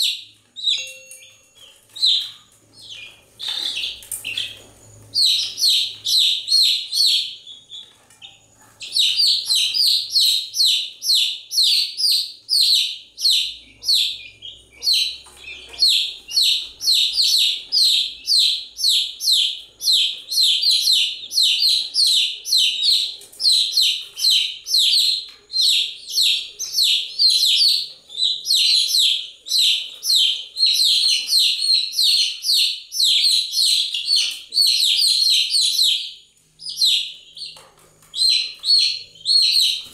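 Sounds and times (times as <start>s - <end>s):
baby chicks chirping: 0.0s - 39.9s.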